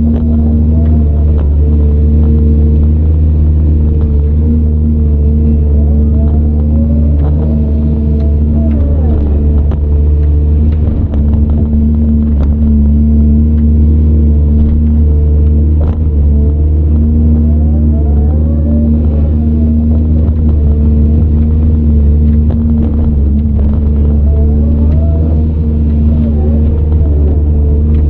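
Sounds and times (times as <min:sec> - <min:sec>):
excavator diesel engine droning: 0:00.0 - 0:28.0
faint gliding whines: 0:00.0 - 0:28.0.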